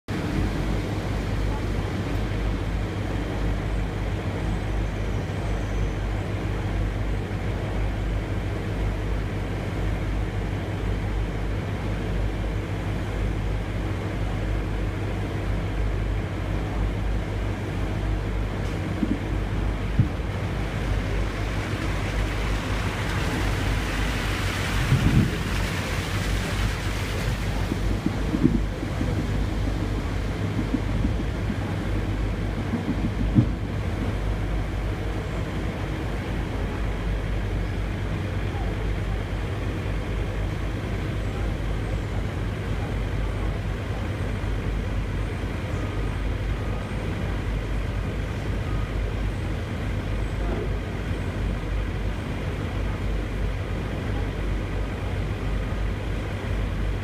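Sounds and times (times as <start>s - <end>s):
industrial machinery drone: 0.1s - 57.0s.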